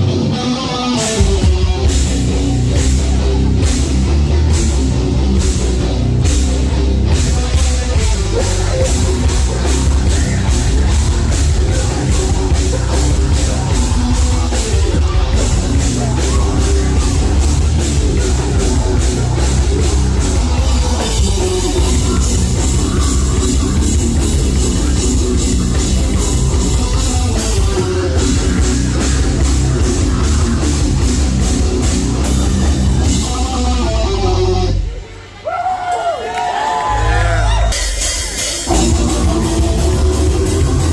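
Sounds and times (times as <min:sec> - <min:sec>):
driving drums and cymbals: 0:00.0 - 0:34.8, 0:37.4 - 0:40.9
bass guitar: 0:00.0 - 0:35.4, 0:36.7 - 0:40.9
distorted guitars: 0:00.0 - 0:35.4, 0:36.8 - 0:40.9.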